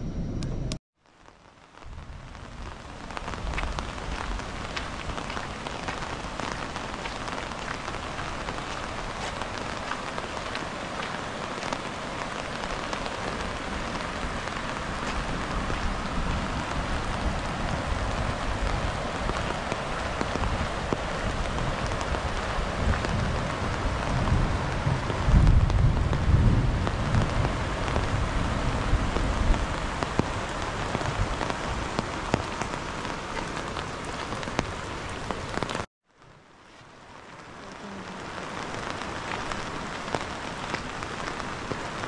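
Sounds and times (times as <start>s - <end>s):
raindrops ticking: 1.0s - 36.3s, 36.9s - 42.0s
rain falling: 1.0s - 42.0s.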